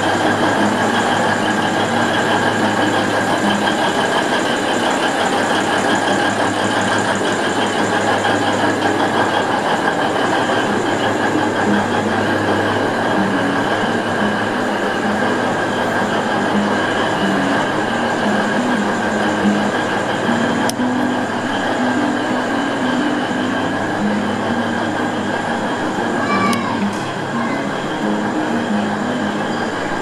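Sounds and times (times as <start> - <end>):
diesel locomotive engine drone: 0.0 - 30.0
train running noise: 0.0 - 30.0.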